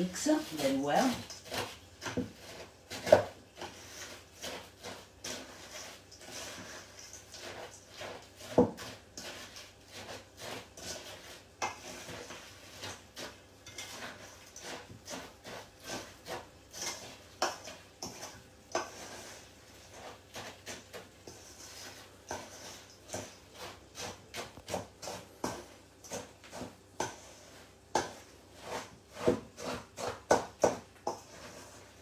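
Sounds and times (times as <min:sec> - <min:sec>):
scraping in metal bowl: 0:00.0 - 0:32.0.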